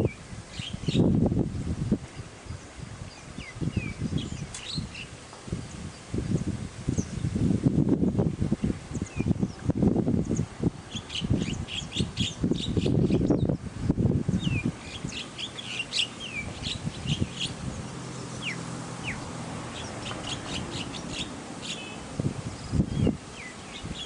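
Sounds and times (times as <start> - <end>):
small birds chirping: 0.0 - 1.2, 2.0 - 7.4, 8.5 - 24.0.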